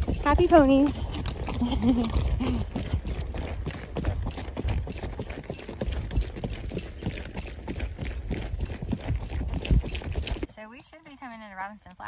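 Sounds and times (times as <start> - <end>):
horse hooves on dirt: 0.0 - 12.0.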